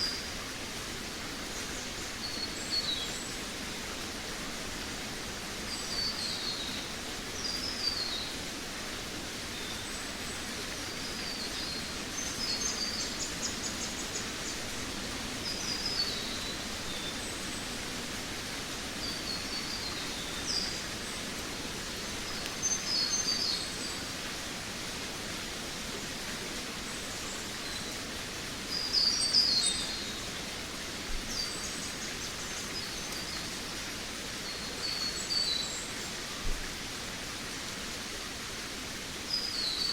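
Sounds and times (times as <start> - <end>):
background hiss: 0.0 - 39.9
songbirds chirping: 1.3 - 24.6, 25.4 - 36.6.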